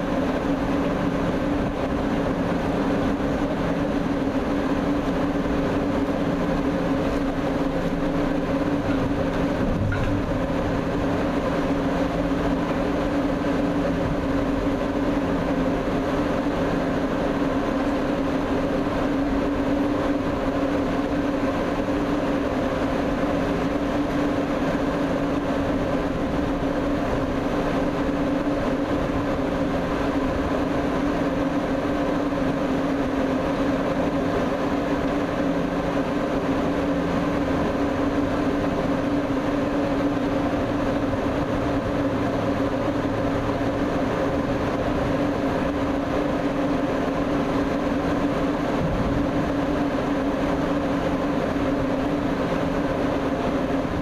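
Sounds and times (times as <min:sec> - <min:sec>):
heavy machinery droning: 0:00.0 - 0:54.0.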